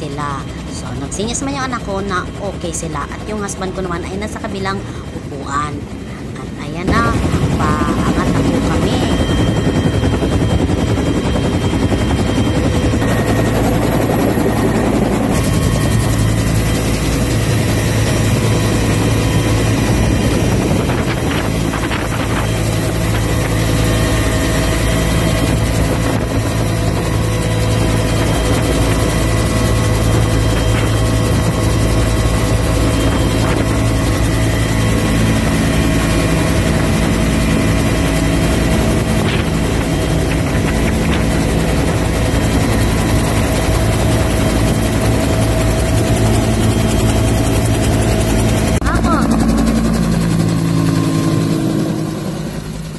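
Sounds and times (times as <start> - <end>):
helicopter engine and rotor: 0.0 - 52.9.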